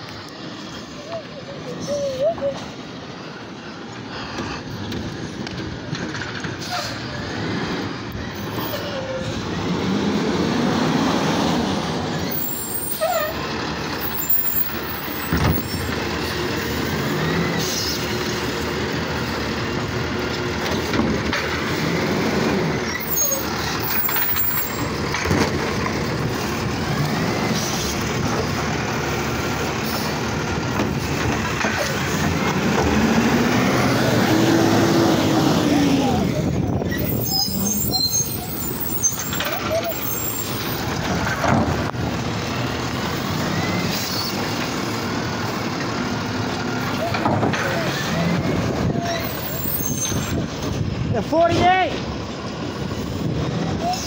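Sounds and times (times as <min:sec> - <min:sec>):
garbage truck diesel engine: 0:00.0 - 0:54.0.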